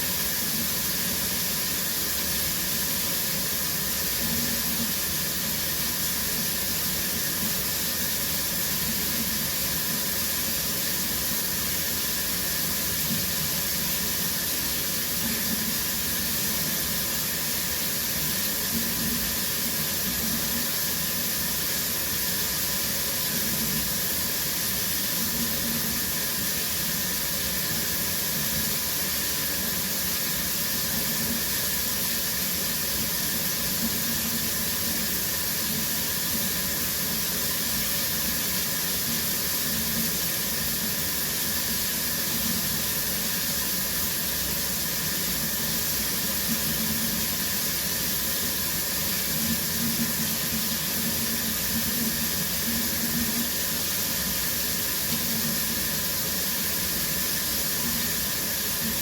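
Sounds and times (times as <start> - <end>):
shower water spraying: 0.0 - 59.0.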